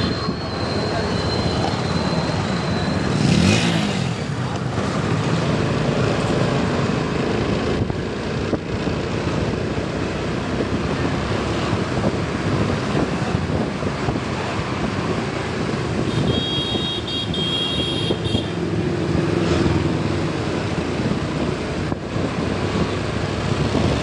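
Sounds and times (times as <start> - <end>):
wind and road noise: 0.0 - 24.0.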